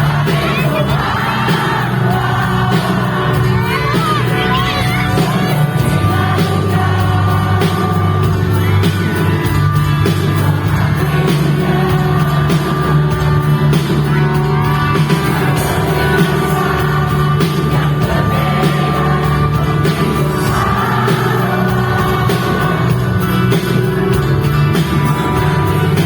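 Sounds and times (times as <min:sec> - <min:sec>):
live pop-rock band with singer: 0:00.0 - 0:26.0.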